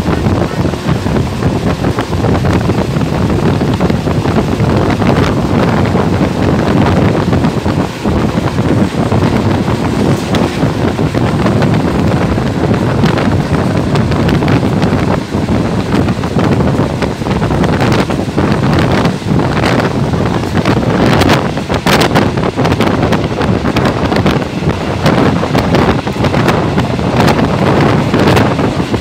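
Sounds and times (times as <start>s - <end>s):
train running on track: 0.0s - 29.0s
wind buffeting microphone: 0.0s - 29.0s.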